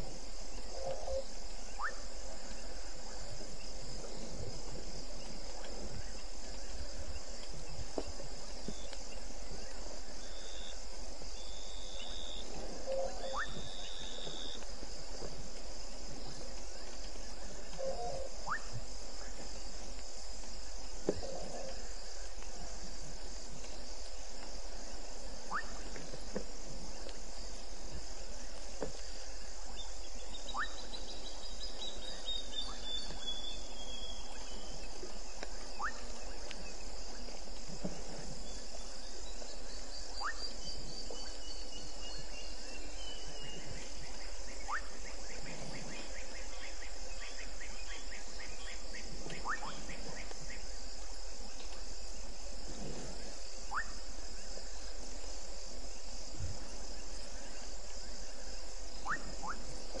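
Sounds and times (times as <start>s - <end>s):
insect chorus trilling: 0.0s - 60.0s.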